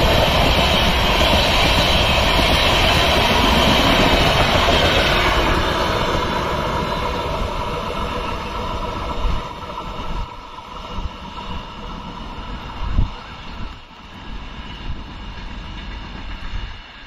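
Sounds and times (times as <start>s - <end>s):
train coaches rolling on rails: 0.0s - 17.0s.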